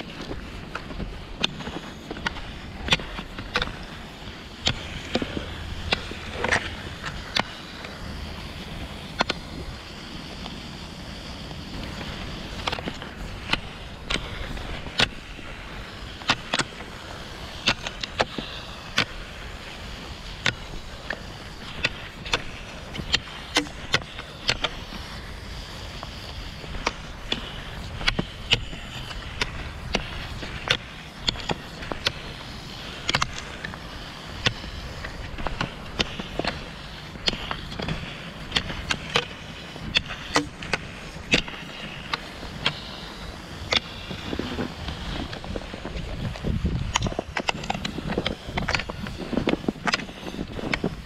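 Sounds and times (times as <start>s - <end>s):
ski pole clicks: 0.0s - 10.6s, 11.2s - 51.0s
skis scraping over snow: 0.0s - 51.0s.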